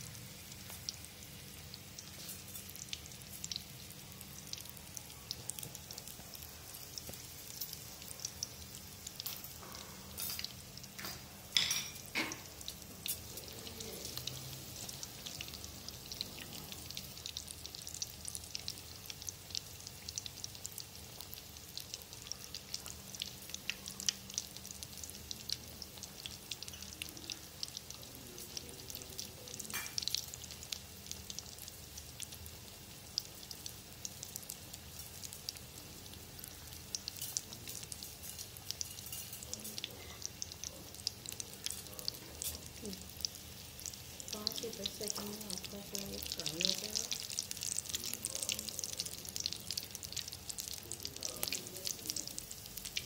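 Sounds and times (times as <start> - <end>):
deep-frying crackling sizzle: 0.0 - 53.0.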